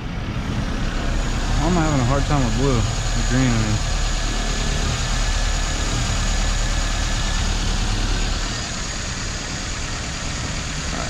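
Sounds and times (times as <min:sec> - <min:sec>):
car engine idling with misfire: 0:00.0 - 0:11.0.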